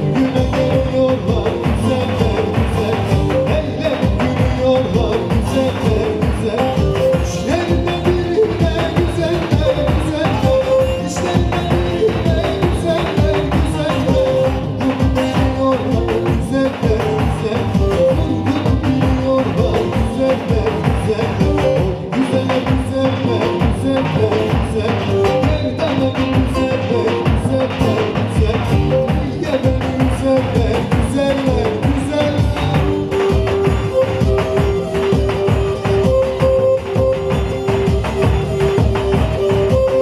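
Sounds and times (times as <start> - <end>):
live folk dance music: 0.0 - 40.0.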